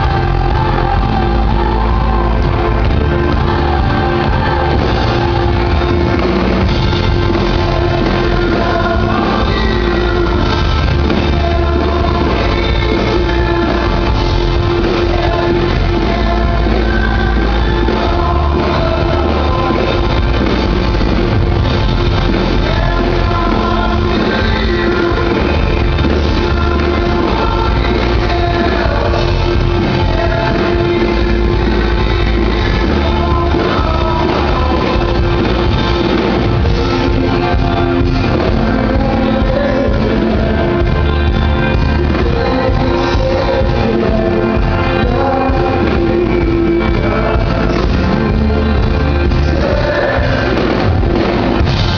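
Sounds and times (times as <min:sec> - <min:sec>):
electric guitar: 0:00.0 - 0:51.9
male lead vocal singing: 0:00.0 - 0:51.9.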